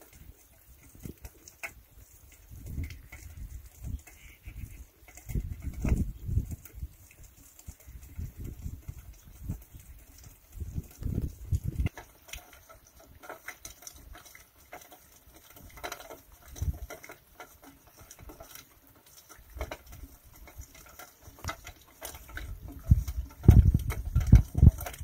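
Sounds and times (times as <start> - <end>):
water trickling through mud: 0.0 - 25.0.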